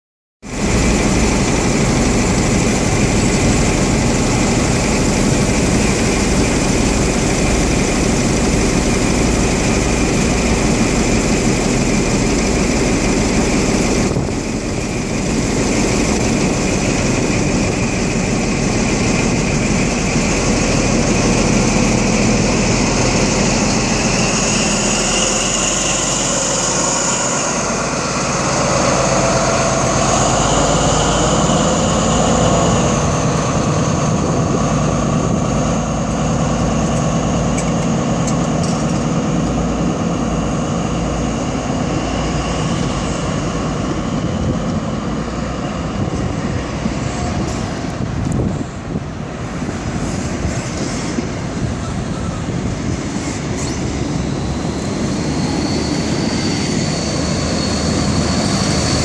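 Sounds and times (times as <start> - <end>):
diesel engine running: 0.4 - 59.0
turbocharger whine: 0.4 - 59.0.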